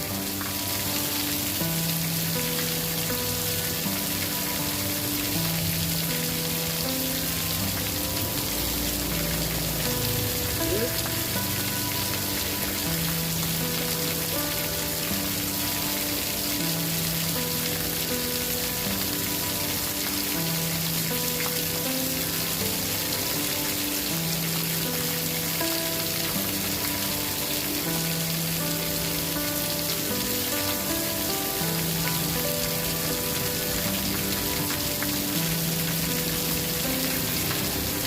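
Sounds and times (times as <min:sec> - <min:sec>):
rain hissing: 0:00.0 - 0:38.0.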